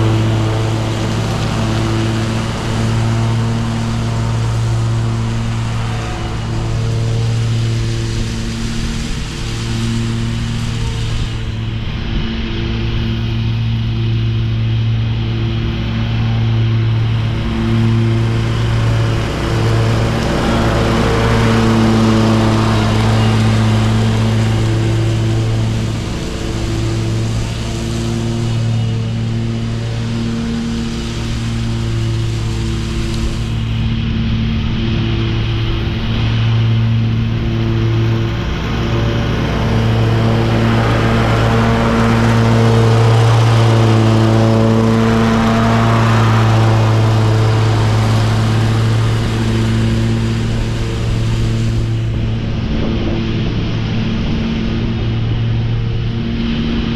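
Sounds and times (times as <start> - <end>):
lawn mower engine running: 0.0 - 56.9
mower deck mulching leaves: 0.0 - 56.9.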